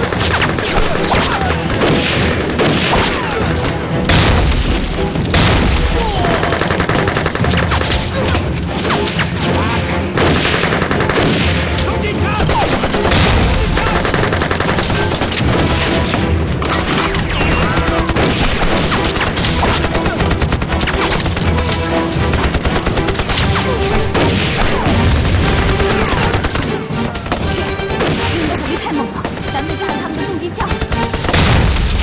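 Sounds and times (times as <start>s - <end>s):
rapid gunfire: 0.0s - 9.4s, 10.1s - 30.0s, 30.6s - 32.0s
dramatic music: 0.0s - 32.0s.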